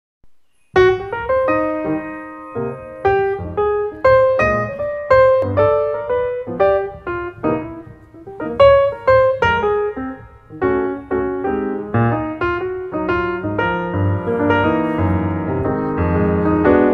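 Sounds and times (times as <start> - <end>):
piano melody: 0.3 - 16.9.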